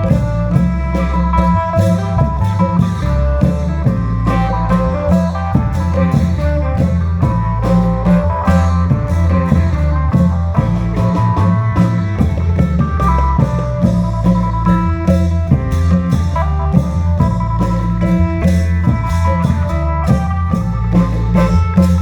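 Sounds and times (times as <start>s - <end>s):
drum troupe playing music: 0.0s - 22.0s
regular drum strokes: 0.0s - 22.0s.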